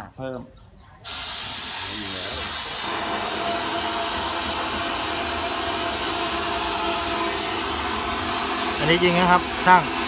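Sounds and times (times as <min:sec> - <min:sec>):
compressed-air spray hissing: 0:01.0 - 0:10.0.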